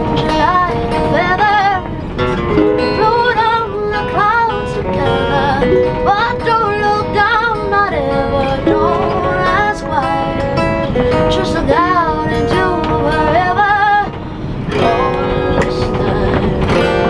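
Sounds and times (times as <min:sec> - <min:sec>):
acoustic guitar: 0:00.0 - 0:17.0
person singing with vibrato: 0:00.0 - 0:17.0
strummed ukulele: 0:00.0 - 0:17.0.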